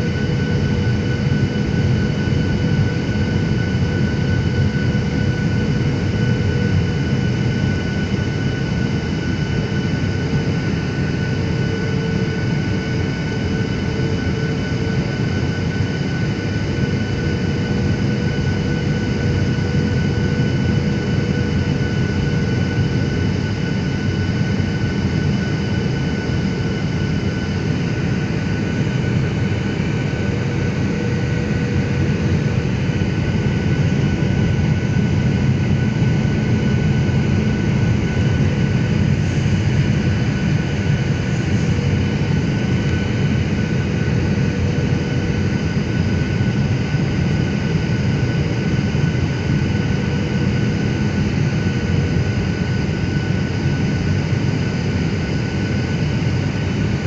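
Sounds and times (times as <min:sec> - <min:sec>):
jet cabin engine and airflow rush: 0:00.0 - 0:57.0.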